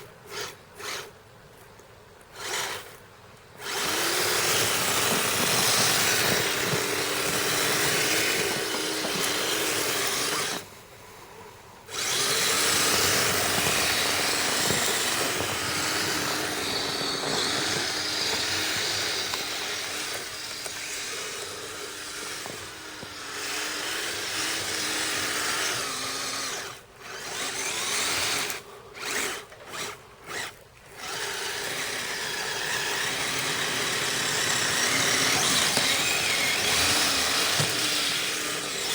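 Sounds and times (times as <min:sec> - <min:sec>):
toy electric motors whining: 0:00.0 - 0:01.2, 0:02.3 - 0:03.0, 0:03.6 - 0:38.9.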